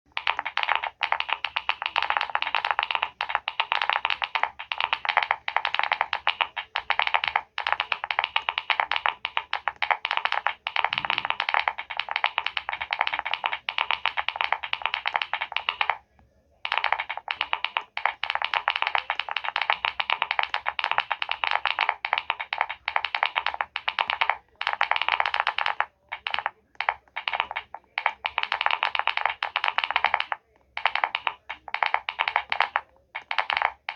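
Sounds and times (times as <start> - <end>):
fast typing on keyboard: 0.1 - 16.0, 16.6 - 33.9.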